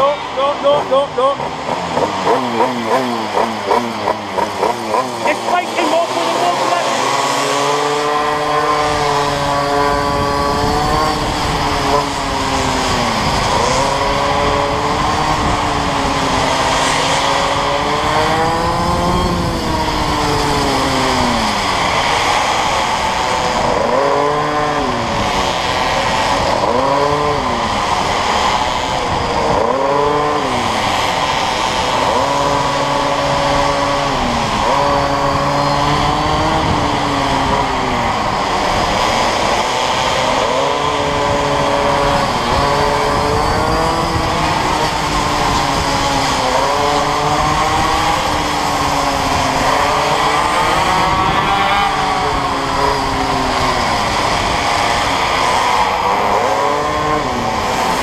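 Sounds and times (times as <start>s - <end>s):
go-kart engine: 0.0s - 58.0s.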